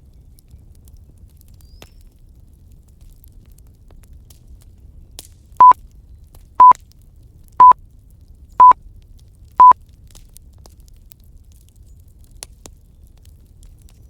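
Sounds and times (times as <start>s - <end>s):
faint fire crackling: 0.0s - 14.0s.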